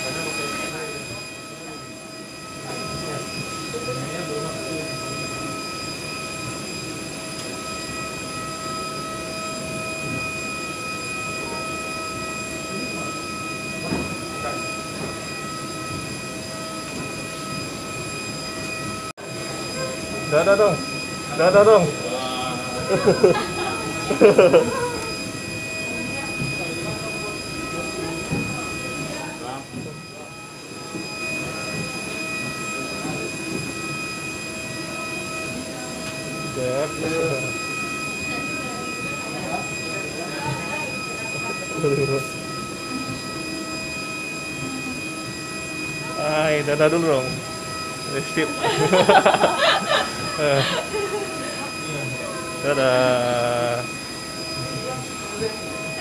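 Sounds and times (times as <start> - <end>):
constant high whine: 0.0 - 56.0.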